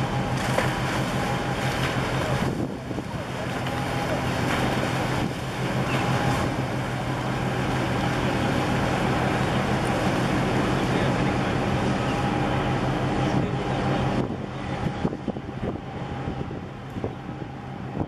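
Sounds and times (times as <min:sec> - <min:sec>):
marine engine droning: 0:00.0 - 0:18.0
water noise: 0:00.0 - 0:18.0
wind: 0:00.0 - 0:18.0.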